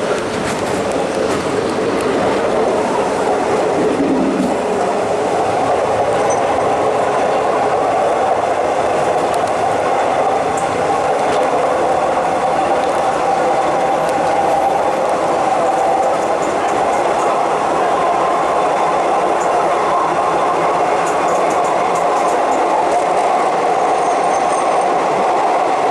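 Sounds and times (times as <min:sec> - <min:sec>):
train running on rails: 0:00.0 - 0:25.9.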